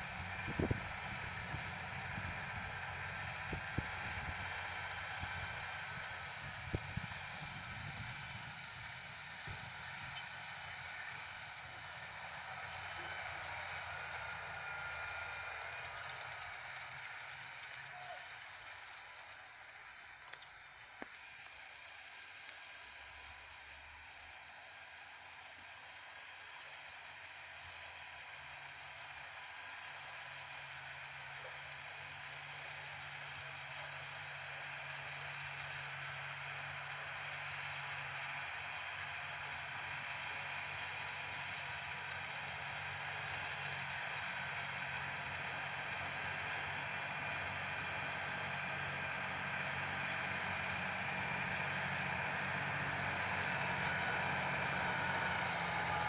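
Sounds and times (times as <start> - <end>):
tractor engine droning under load: 0.0 - 56.0.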